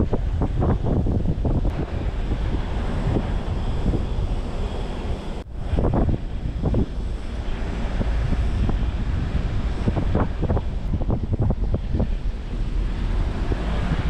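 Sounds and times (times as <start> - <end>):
vehicle driving rumble: 0.0 - 14.0
wind buffeting microphone: 0.0 - 14.0.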